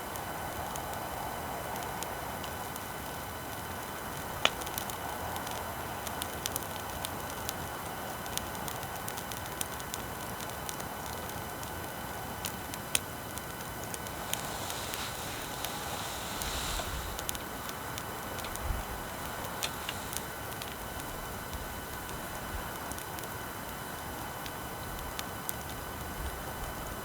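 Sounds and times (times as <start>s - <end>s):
bonfire crackling and popping: 0.0s - 27.0s
recording noise hiss: 0.0s - 27.0s.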